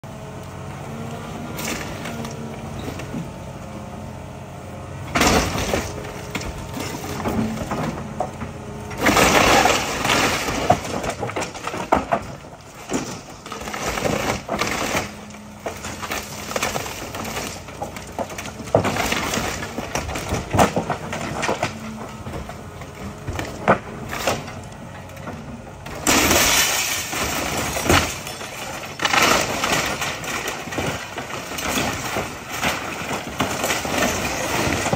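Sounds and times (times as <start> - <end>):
excavator diesel engine running: 0.0 - 34.9
splintering timber crashes: 5.1 - 34.9.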